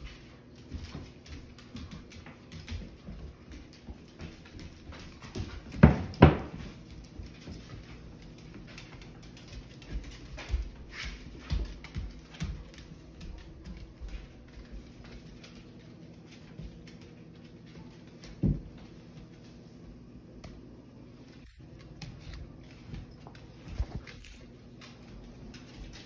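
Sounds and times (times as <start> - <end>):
dog claws clicking on wood floor: 0.6 - 19.5, 21.4 - 26.0.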